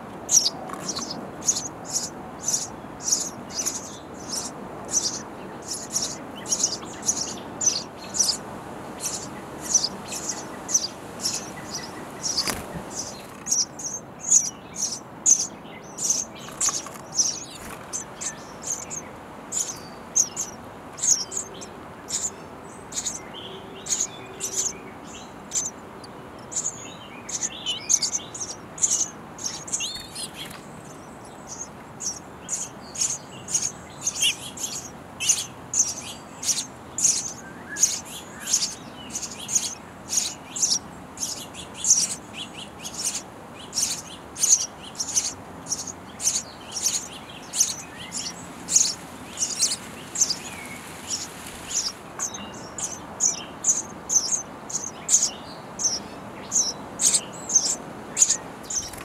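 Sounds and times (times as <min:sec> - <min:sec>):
nestlings shrill begging chirps: 0:00.3 - 0:59.0.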